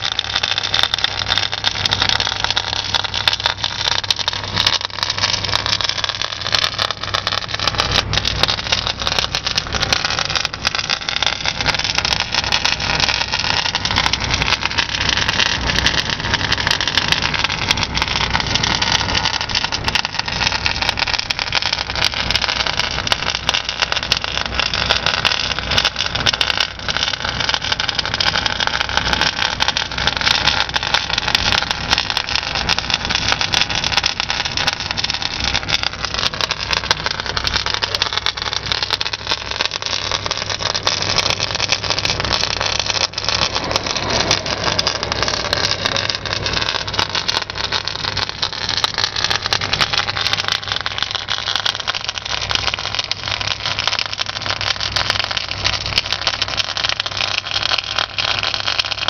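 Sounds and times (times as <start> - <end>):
fine crackling clicks: 0.0 - 59.0
low steady hum: 0.0 - 59.0.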